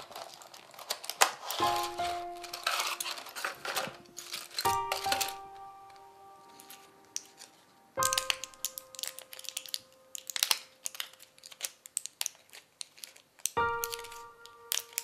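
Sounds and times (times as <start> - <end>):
pills clicking out of blister pack: 0.0 - 15.0
plastic crinkling: 0.0 - 15.0.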